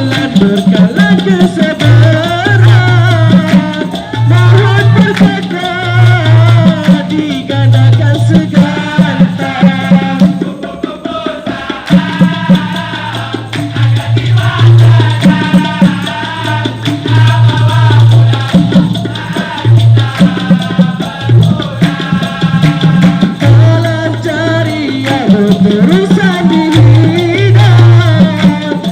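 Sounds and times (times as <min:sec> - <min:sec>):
hand percussion: 0:00.0 - 0:28.9
male chorus singing: 0:00.0 - 0:28.9
maracas: 0:00.0 - 0:28.9.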